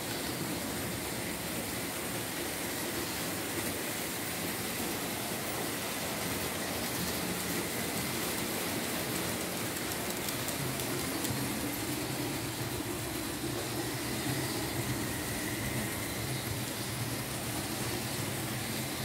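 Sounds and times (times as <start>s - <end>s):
model train running on track: 0.0s - 19.0s.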